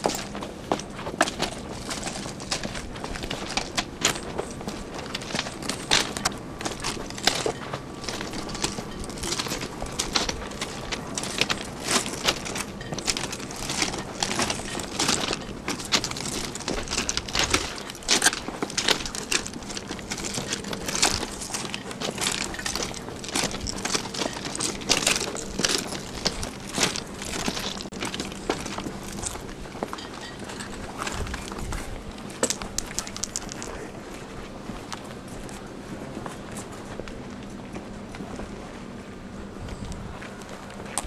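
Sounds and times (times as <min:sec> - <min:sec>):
footsteps crunching on gravel: 0:00.0 - 0:41.0.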